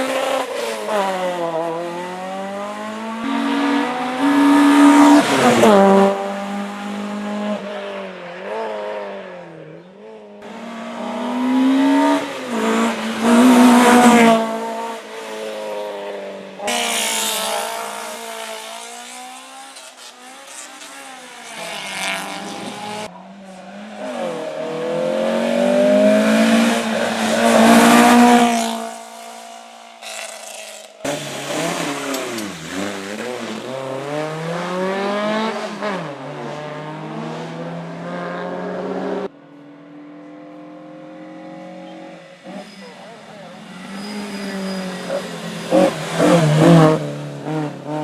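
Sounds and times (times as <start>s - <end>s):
race cars revving past: 0.0s - 48.0s.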